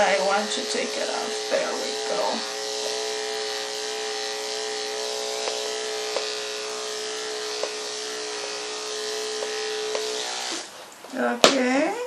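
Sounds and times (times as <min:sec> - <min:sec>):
electric clippers humming: 0:00.0 - 0:10.8.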